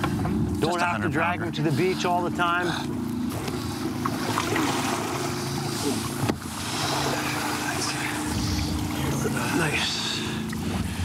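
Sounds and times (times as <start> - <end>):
boat motor idling: 0.0 - 11.0
water noise: 0.0 - 11.0.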